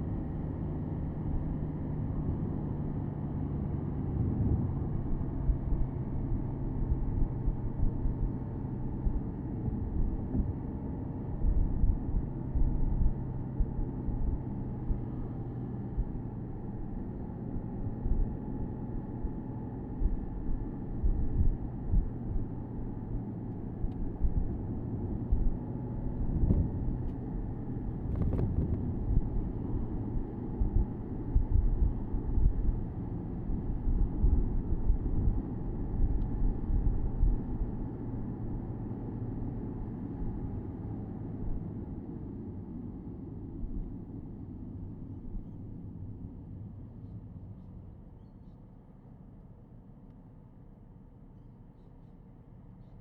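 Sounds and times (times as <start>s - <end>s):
road and wind rumble: 0.0s - 53.0s
car engine cruising: 2.1s - 47.8s.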